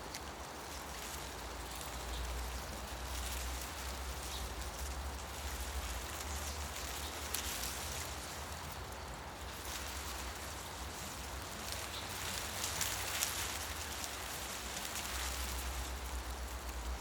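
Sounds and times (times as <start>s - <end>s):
low rumble of wind: 0.0s - 17.0s
wind rustling leaves: 0.0s - 17.0s.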